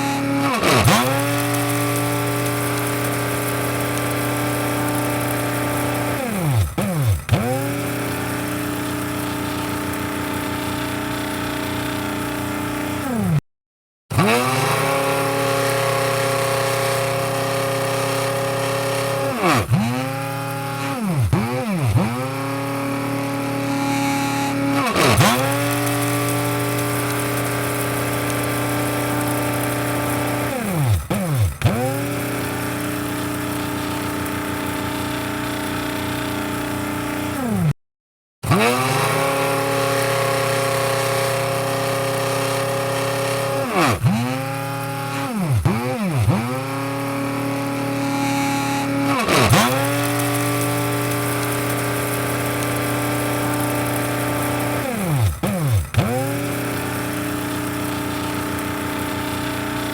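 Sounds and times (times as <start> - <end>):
electric coffee grinder motor whining: 0.0 - 13.4, 14.1 - 37.8, 38.4 - 59.9.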